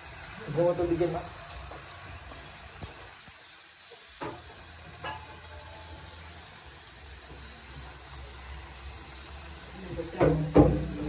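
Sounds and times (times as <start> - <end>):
food hissing on stove: 0.0 - 11.0.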